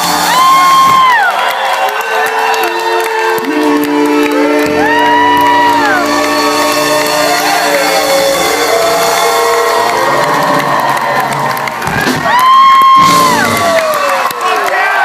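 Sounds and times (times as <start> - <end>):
crowd cheering and whooping: 0.0 - 15.0
live band music: 1.9 - 14.4.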